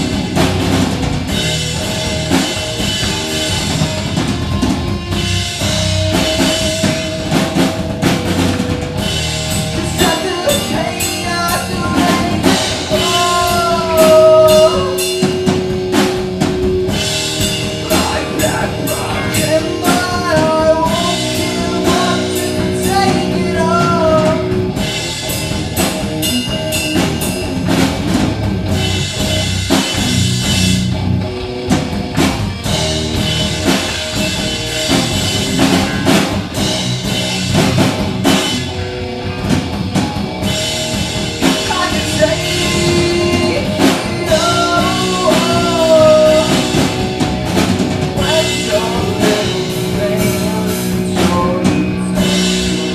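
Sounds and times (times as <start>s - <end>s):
bending melody line: 0.0s - 52.9s
drum kit beat: 0.0s - 52.9s
live rock band playing: 0.0s - 52.9s.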